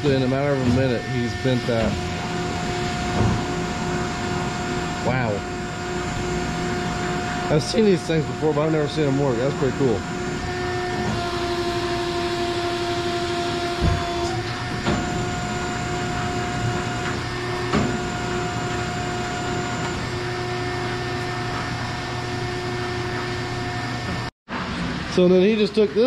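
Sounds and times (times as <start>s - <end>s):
plate rolling machine motor whine: 0.0s - 24.3s.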